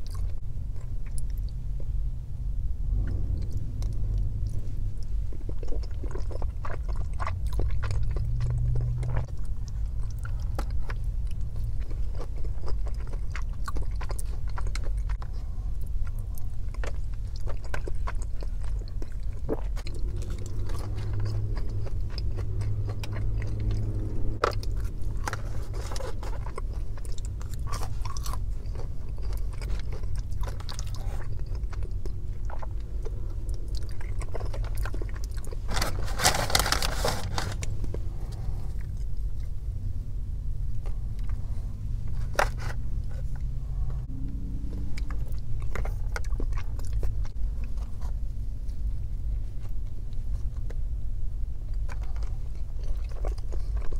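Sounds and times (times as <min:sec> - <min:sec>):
person chewing food: 0:00.0 - 0:02.0, 0:02.8 - 0:39.8, 0:40.7 - 0:53.9
steady low hum: 0:00.0 - 0:53.9.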